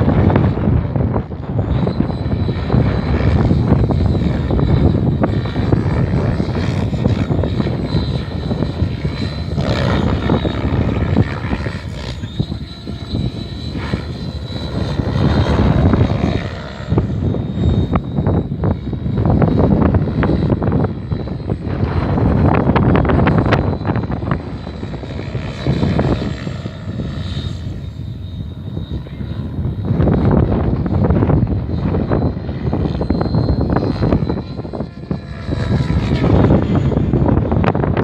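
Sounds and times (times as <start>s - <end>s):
helicopter rotor rumble: 0.0s - 38.0s
high-pitched whine: 0.0s - 38.0s.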